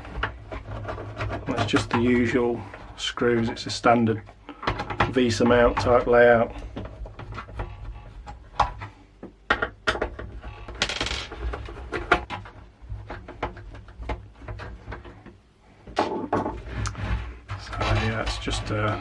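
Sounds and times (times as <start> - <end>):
plastic stand scraping: 0.0 - 9.1, 9.8 - 19.0.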